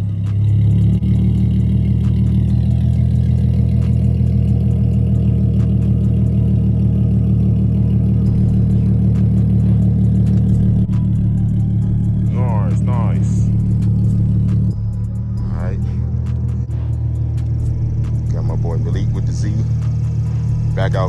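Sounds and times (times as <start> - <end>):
car engine idling deep rumble: 0.0 - 21.0.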